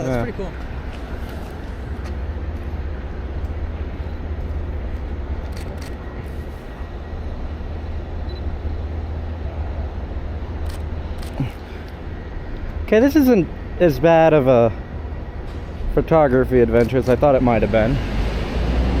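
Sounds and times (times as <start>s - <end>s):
low rumble of city noise: 0.0s - 19.0s.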